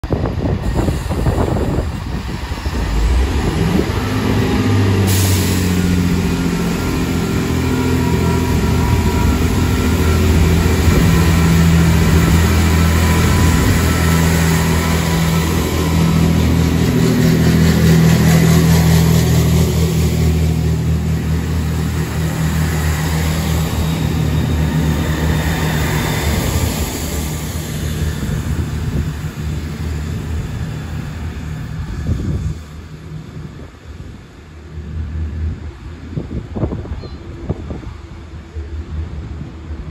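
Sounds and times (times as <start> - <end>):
diesel train engines droning: 0.0 - 39.9.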